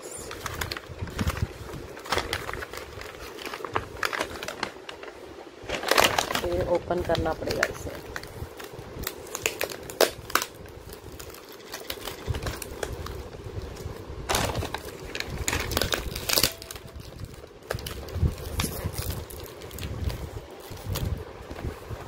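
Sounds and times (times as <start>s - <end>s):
cling film crinkling: 0.1s - 22.0s.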